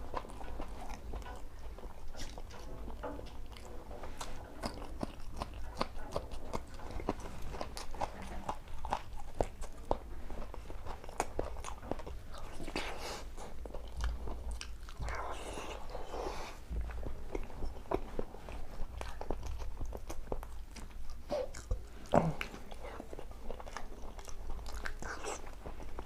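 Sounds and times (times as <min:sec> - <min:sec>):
person chewing crunchy food: 0:00.0 - 0:26.0.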